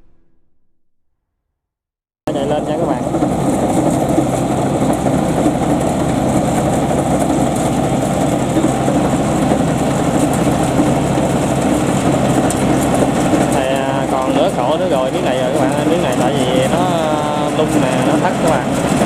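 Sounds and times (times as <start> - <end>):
harvester engine running: 2.3 - 19.0.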